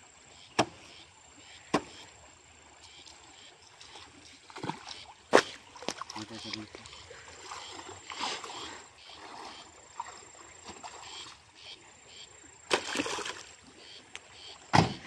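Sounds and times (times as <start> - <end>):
water splashing from wading: 1.6 - 11.6, 12.6 - 15.0.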